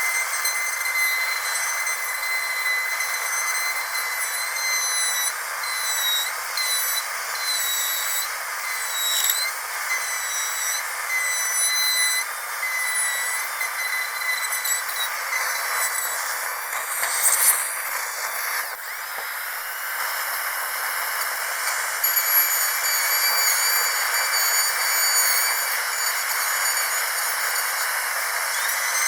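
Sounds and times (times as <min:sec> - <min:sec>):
dental drill whining: 0:00.0 - 0:29.0.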